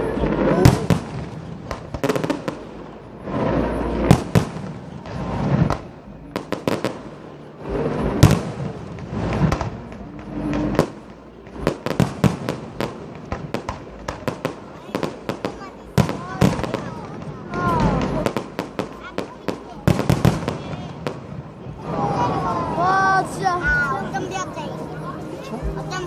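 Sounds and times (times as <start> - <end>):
firework crackling pops: 0.0 - 22.1
firework shells booming: 0.3 - 21.8.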